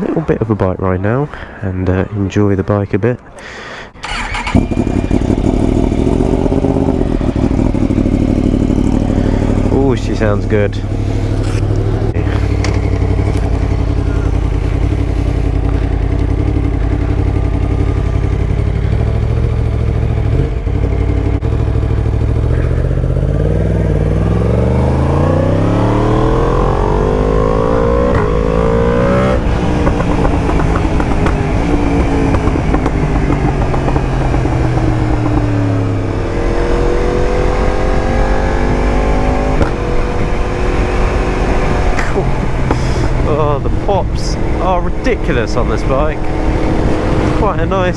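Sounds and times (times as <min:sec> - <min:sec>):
motorcycle engine revving: 0:04.0 - 0:47.9.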